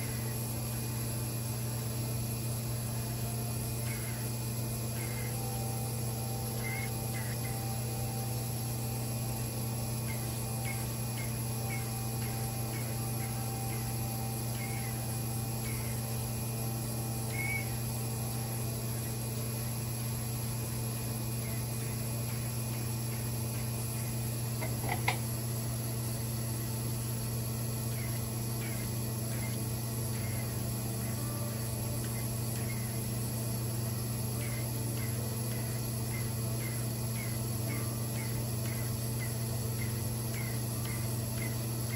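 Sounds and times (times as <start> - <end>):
pump humming: 0.0 - 41.9.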